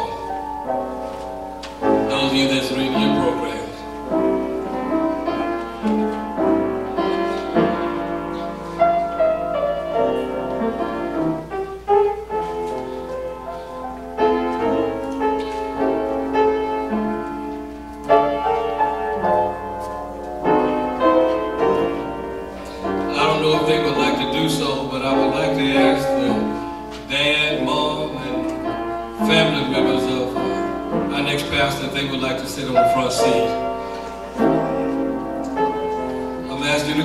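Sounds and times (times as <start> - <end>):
piano chords and melody: 0.0 - 37.0.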